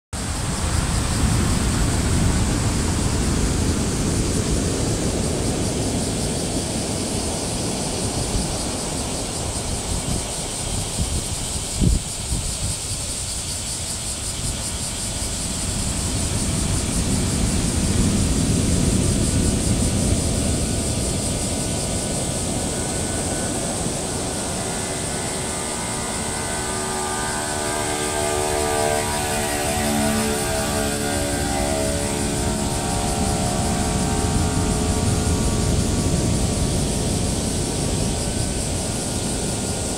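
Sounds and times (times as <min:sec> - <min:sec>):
faint multi-pitched hum: 0:00.2 - 0:39.9
strong wind: 0:00.2 - 0:39.9
waves breaking on beach: 0:00.2 - 0:39.9
wind buffeting microphone: 0:00.2 - 0:39.9.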